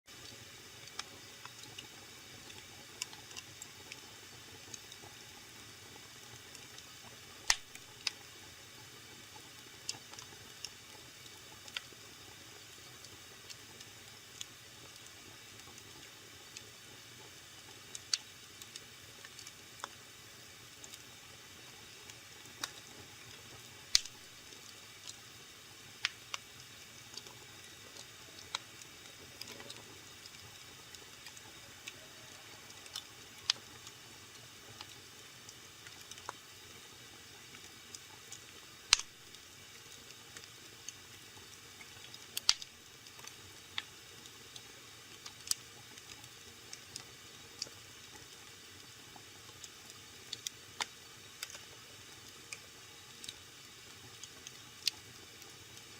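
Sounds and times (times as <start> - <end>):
wood fire crackling and popping: 0.2 - 55.9.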